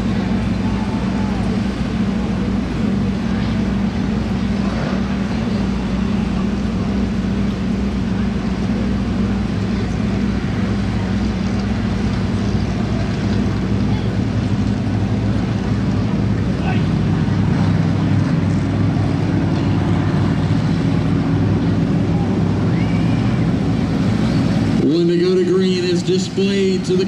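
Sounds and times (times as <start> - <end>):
race car engines droning: 0.0 - 27.0.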